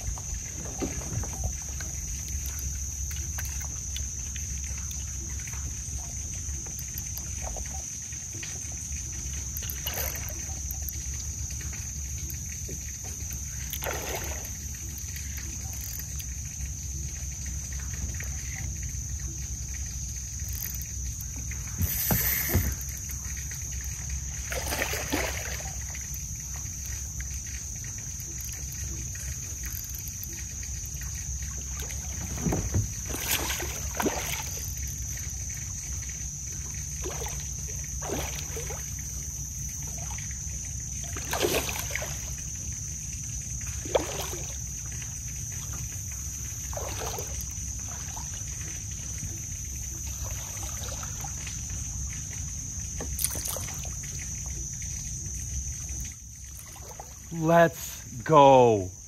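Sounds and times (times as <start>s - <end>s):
fish splashing in water: 0.0s - 58.1s
high insect drone: 0.0s - 59.0s.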